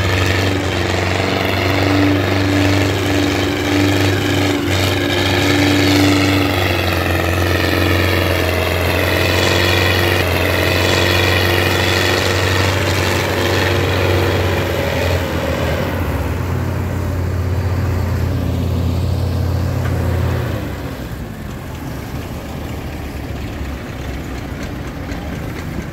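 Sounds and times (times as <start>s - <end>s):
tractor diesel engine under load: 0.0s - 25.9s.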